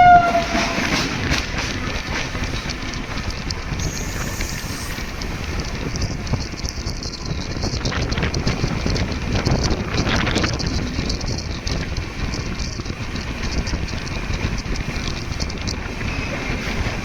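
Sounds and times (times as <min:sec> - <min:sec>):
train wheels clattering on rails: 0:00.0 - 0:17.0
wind on microphone: 0:00.0 - 0:17.0.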